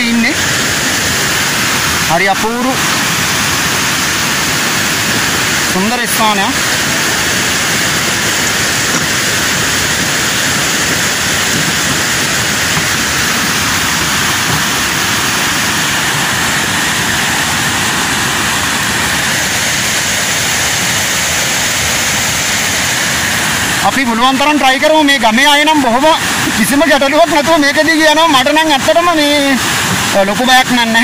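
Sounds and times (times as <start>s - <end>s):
water rushing over rapids: 0.0s - 31.0s.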